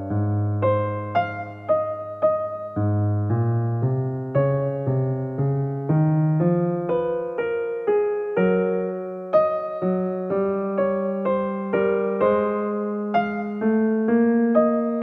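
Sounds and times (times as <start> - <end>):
electric piano sustained notes: 0.0 - 15.0.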